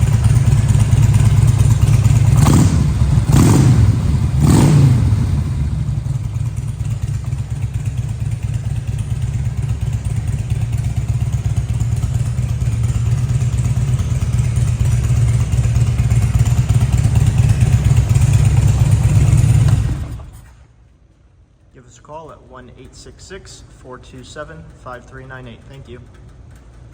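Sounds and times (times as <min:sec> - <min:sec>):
motorcycle engine idling: 0:00.0 - 0:20.5, 0:22.3 - 0:26.9.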